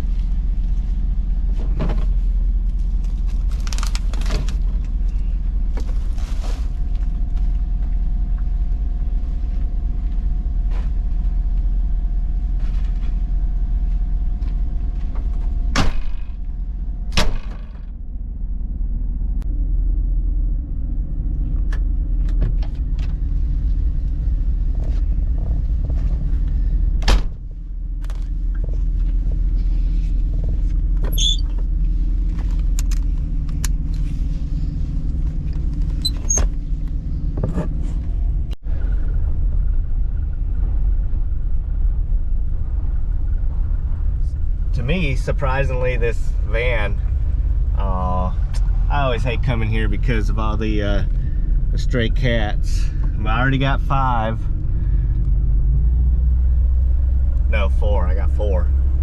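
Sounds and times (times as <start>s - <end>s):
van engine and road rumble: 0.0s - 59.0s.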